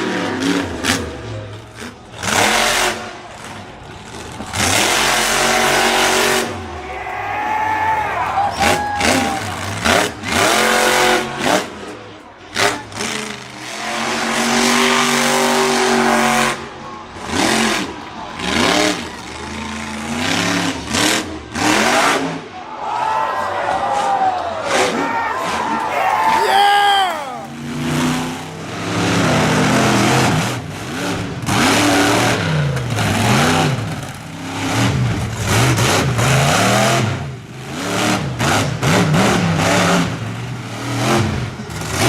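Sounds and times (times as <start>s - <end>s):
truck engine revving hard: 0.0s - 7.0s, 7.6s - 22.6s, 23.4s - 42.0s.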